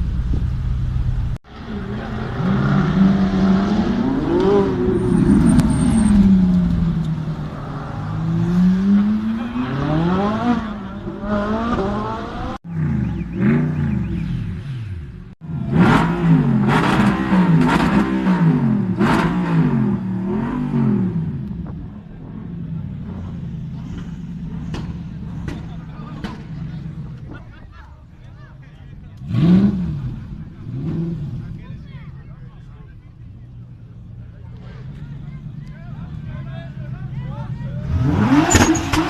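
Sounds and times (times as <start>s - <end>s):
car engines revving hard: 1.3s - 28.2s, 28.8s - 31.9s, 33.5s - 39.0s.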